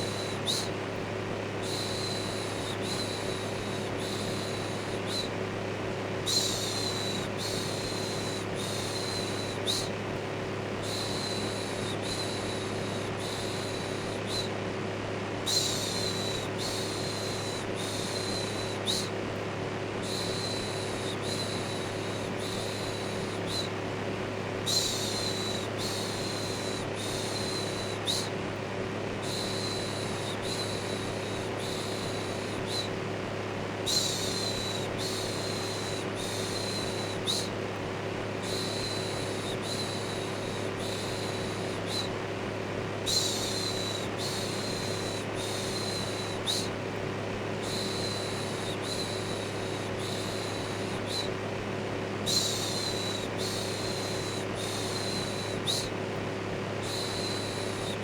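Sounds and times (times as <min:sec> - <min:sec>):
electric fan humming: 0:00.0 - 0:58.0.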